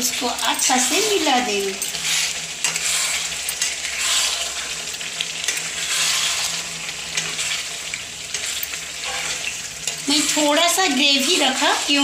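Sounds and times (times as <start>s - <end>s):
gravy sizzling in a pan: 0.0s - 12.0s.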